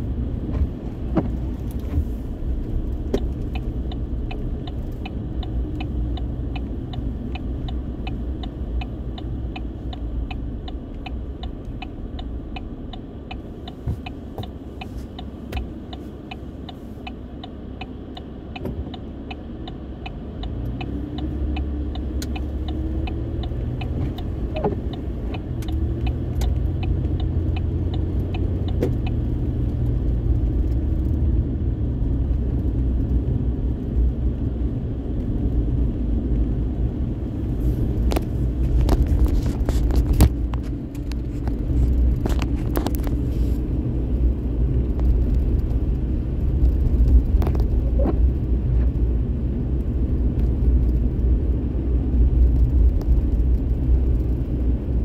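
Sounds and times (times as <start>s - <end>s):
car road and engine rumble: 0.0s - 55.0s
light regular ticking: 1.3s - 55.0s.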